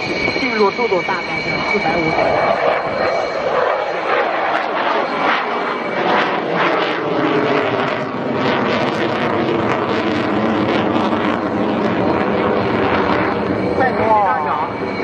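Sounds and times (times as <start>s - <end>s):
jet engine rushing: 0.0s - 15.0s.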